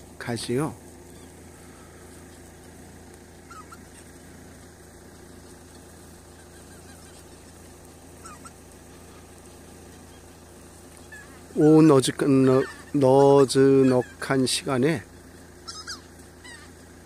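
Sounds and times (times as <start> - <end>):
steady low hum: 0.0 - 17.0
geese honking faintly: 0.3 - 17.0.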